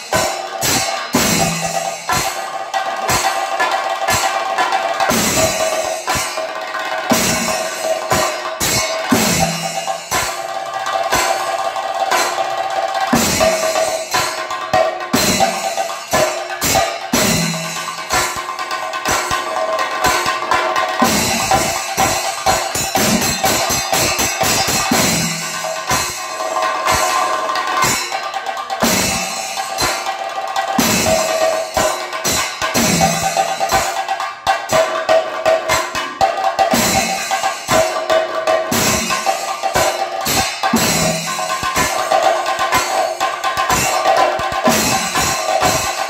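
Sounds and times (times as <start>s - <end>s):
drums beaten with sticks in rolls: 0.0s - 46.0s.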